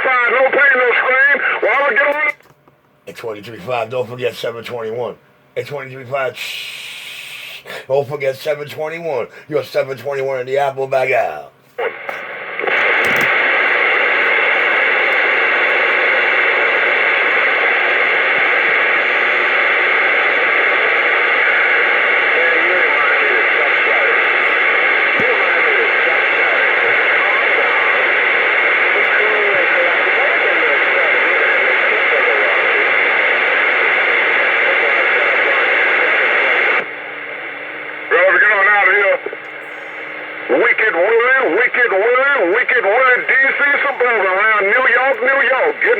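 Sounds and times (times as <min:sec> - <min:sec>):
radio static hiss: 0:00.0 - 0:02.5, 0:03.1 - 0:45.9.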